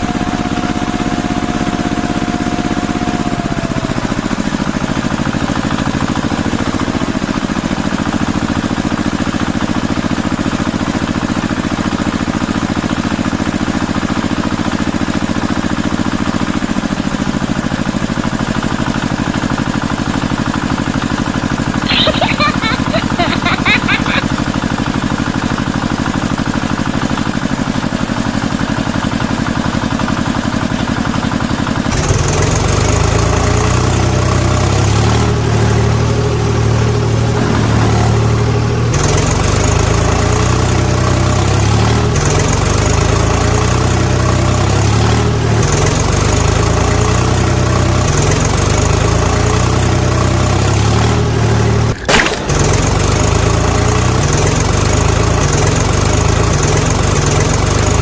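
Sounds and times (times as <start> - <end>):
diesel tractor engine idling: 0.0 - 58.0.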